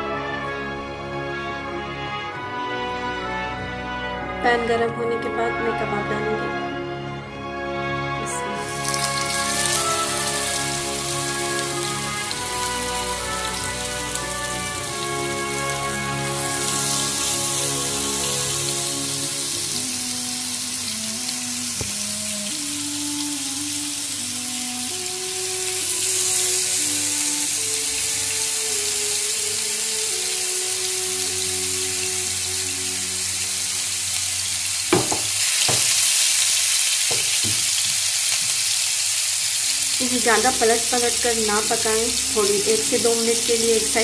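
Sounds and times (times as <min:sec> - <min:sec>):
soft background music: 0:00.0 - 0:44.0
kebabs sizzling in oil: 0:08.5 - 0:44.0.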